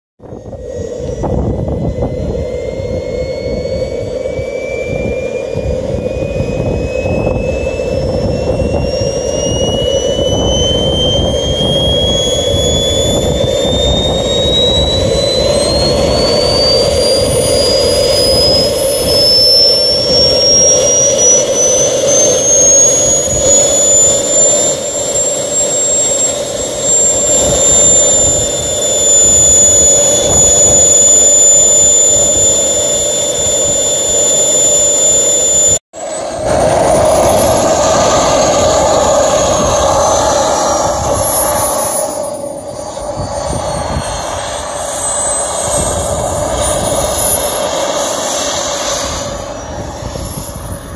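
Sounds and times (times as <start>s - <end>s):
model jet turbine whine: 0.2s - 50.9s.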